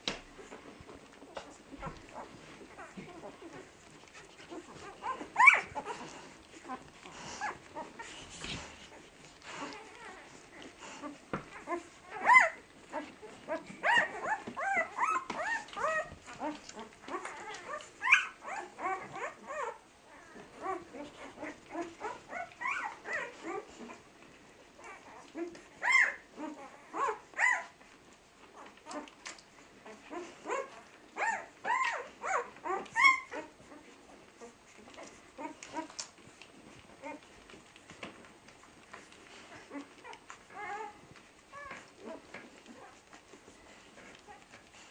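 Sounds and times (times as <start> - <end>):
puppies squeaking and whimpering: 0.4 - 27.8, 28.4 - 44.9.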